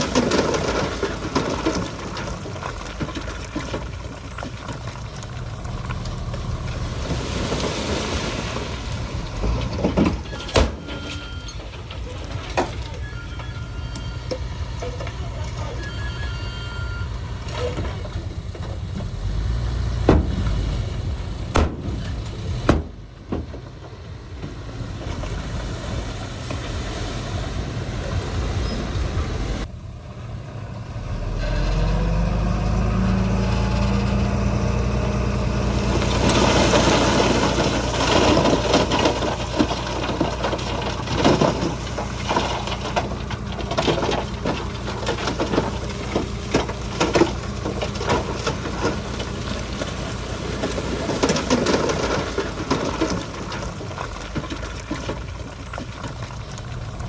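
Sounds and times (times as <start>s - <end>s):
metal and soil clattering: 0.0s - 29.7s, 31.0s - 57.0s
heavy diesel machinery running: 0.0s - 57.0s.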